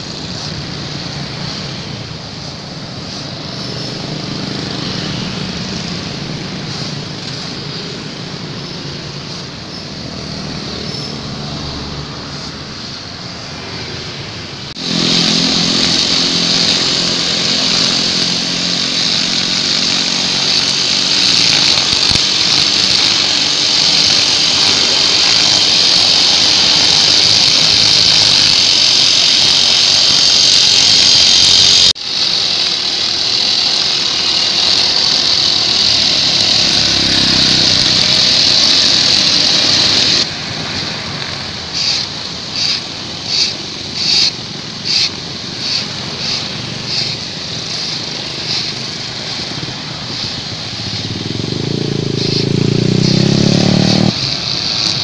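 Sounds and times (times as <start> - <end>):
brush cutter engine running: 0.0 - 12.5, 14.7 - 55.0
motorcycles passing: 0.0 - 55.0
nylon line whining cutting grass: 0.0 - 55.0
road traffic: 0.0 - 55.0.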